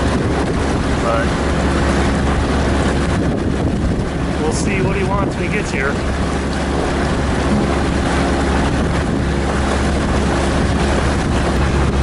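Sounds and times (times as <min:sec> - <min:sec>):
boat engine drone: 0:00.0 - 0:12.0
rushing water: 0:00.0 - 0:12.0
wind buffeting microphone: 0:00.0 - 0:12.0.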